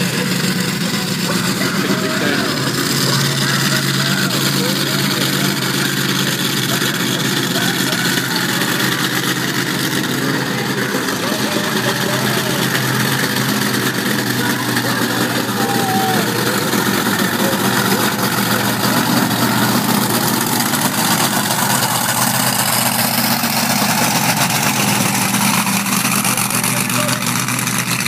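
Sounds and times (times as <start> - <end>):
monster truck engine idling: 0.0 - 28.0.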